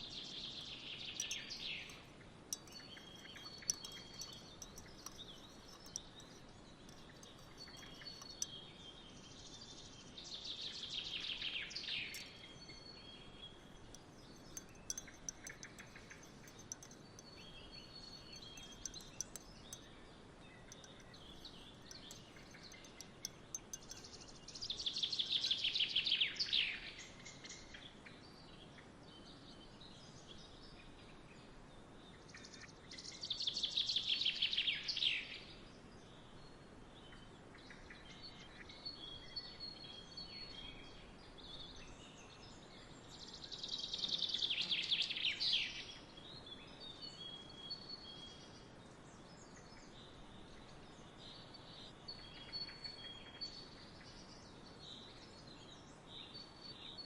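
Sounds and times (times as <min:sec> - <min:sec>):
faint bird chirps: 0:00.0 - 0:31.0, 0:32.1 - 0:57.0
soft background hiss: 0:00.0 - 0:57.0.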